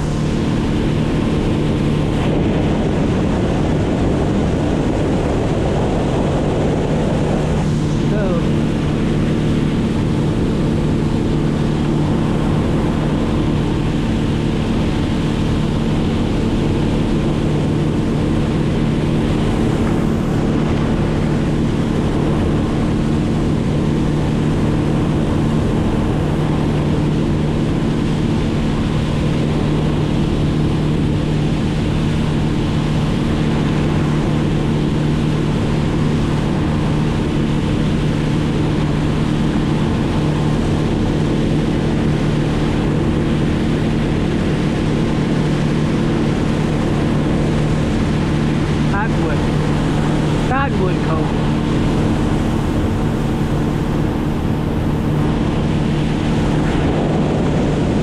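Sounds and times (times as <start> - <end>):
engine droning steadily: 0.0 - 58.0.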